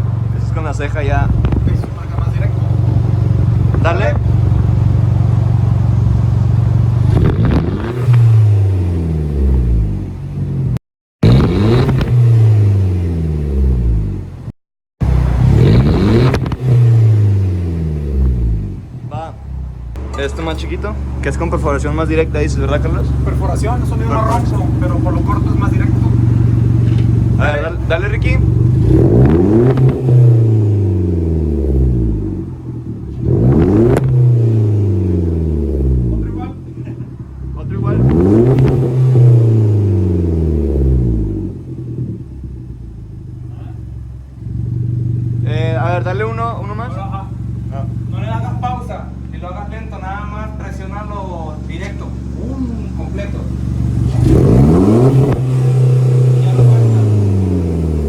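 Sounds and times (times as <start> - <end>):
car engine idling and revving: 0.0 - 58.0
exhaust crack: 0.0 - 58.0.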